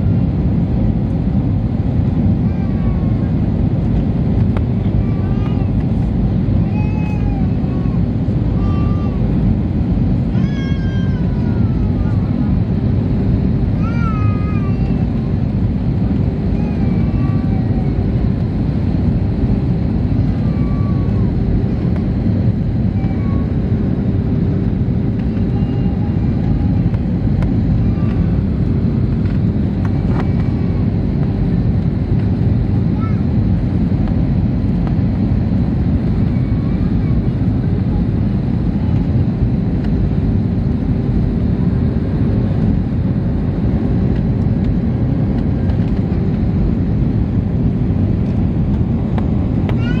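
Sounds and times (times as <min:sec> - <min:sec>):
airliner cabin engine roar: 0:00.0 - 0:50.0.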